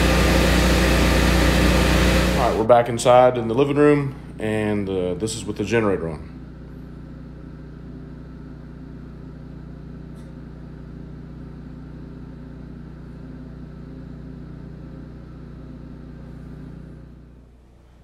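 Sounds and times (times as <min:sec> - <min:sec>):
muffled generator engine hum: 0:00.0 - 0:18.0.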